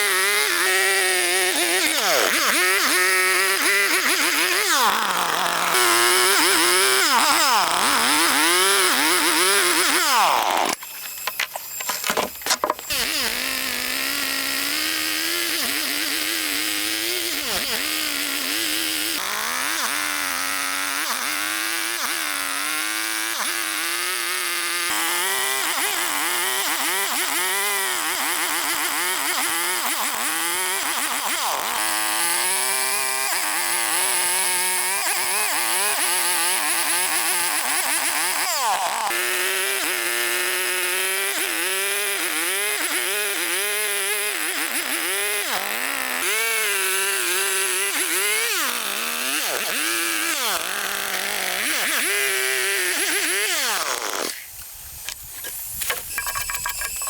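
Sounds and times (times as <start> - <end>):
small chainsaw engine running: 0.0 - 57.0.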